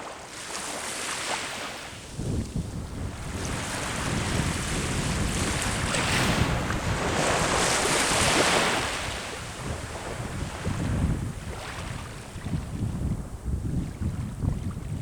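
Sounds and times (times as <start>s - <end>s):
sea waves breaking on shore: 0.0s - 15.0s
wind rumbling on microphone: 1.9s - 15.0s.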